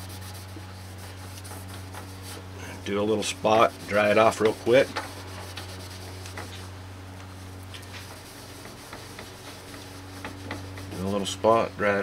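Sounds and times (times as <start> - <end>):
cloth rubbing on plastic: 0.0 - 2.5, 3.2 - 6.8, 7.4 - 11.1.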